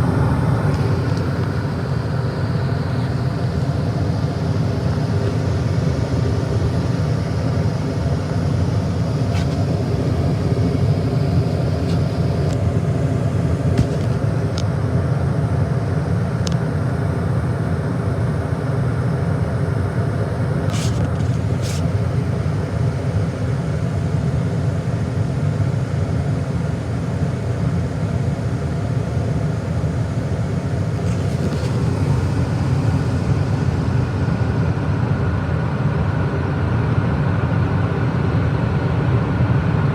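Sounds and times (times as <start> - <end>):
gas furnace humming: 0.0 - 38.2.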